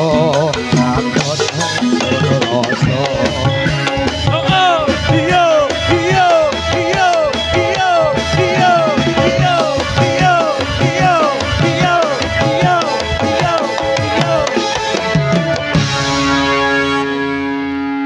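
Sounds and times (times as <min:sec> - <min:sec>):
steady drum beat: 0:00.0 - 0:16.4.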